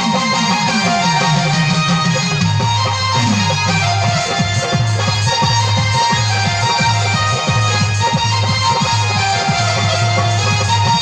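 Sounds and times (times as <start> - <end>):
dance music: 0.0 - 11.0.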